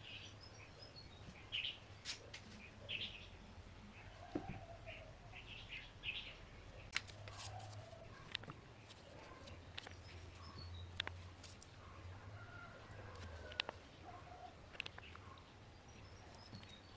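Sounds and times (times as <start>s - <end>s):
birds chirping faintly: 0.0s - 16.9s.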